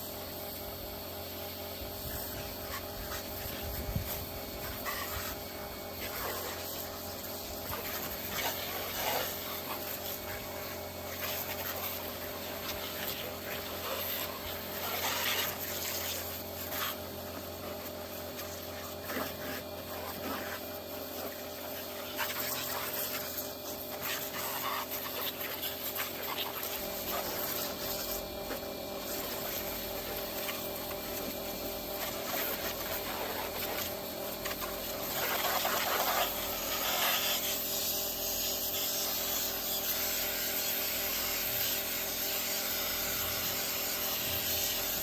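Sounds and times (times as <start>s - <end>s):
pressure washer motor humming: 0.0s - 45.0s.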